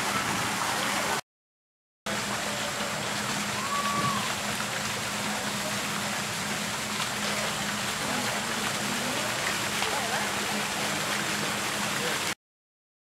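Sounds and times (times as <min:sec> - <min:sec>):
running water rushing: 0:00.0 - 0:01.2, 0:02.1 - 0:12.4.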